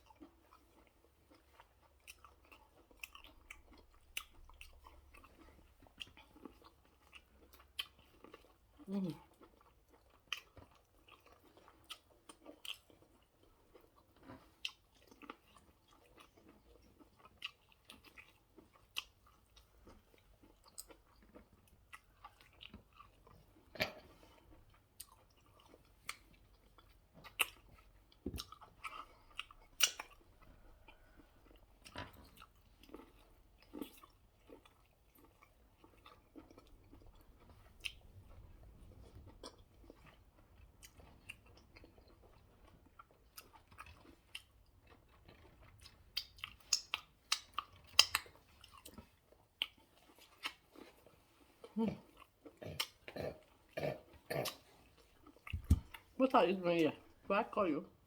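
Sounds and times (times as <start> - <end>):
person chewing and biting food: 0.0 - 56.2.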